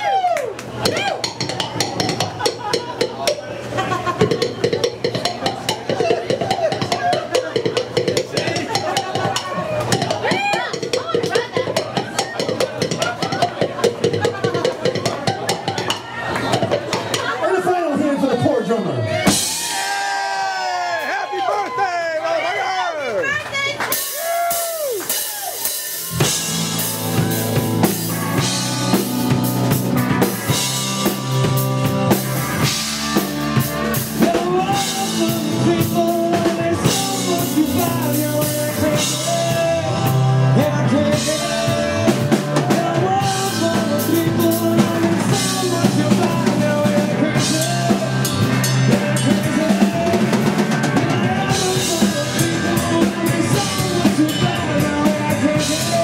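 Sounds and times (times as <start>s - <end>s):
rock drum solo: 0.0s - 17.8s, 19.1s - 21.2s, 23.9s - 56.0s.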